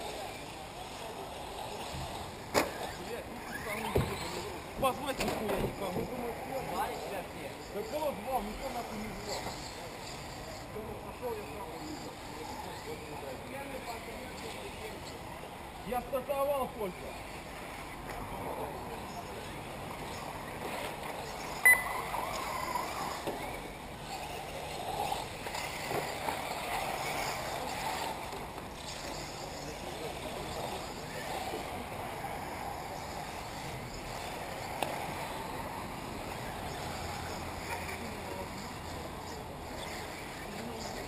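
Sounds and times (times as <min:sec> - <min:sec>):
rushing outdoor background: 0:00.0 - 0:41.0.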